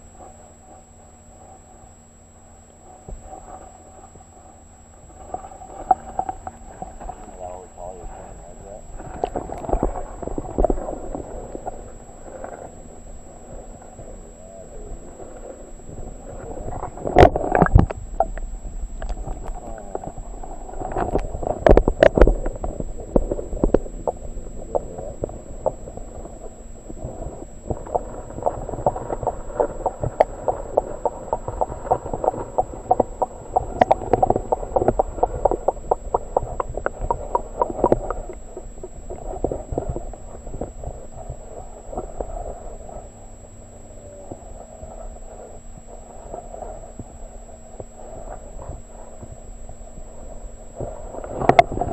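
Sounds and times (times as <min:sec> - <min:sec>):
faint low hum: 0:00.0 - 0:51.9
muffled underwater water movement: 0:00.0 - 0:51.9
small underwater clicks and knocks: 0:00.1 - 0:51.9.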